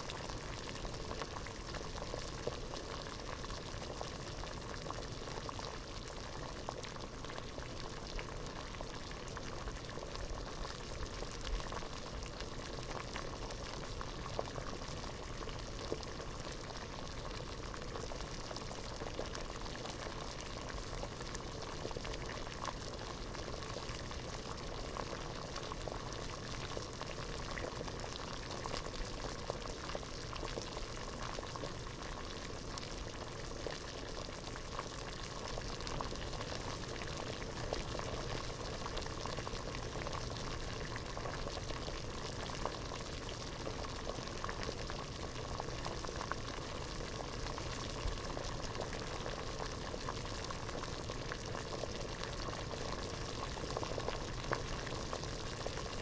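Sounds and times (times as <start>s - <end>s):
water boiling in a pot: 0.0s - 56.0s.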